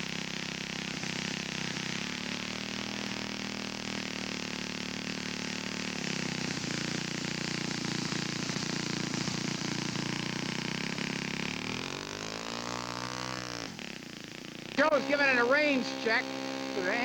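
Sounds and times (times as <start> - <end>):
model aircraft engine running: 0.0 - 17.0.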